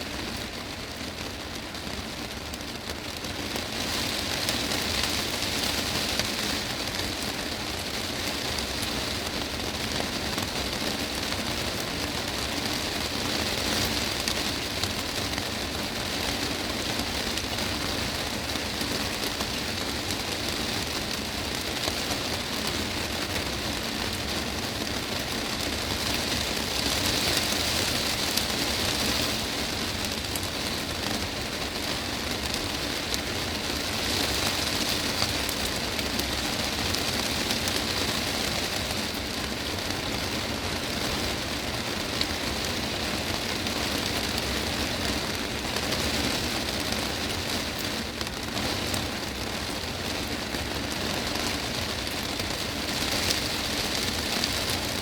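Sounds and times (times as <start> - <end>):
heavy rain on glass roof: 0.0 - 55.0.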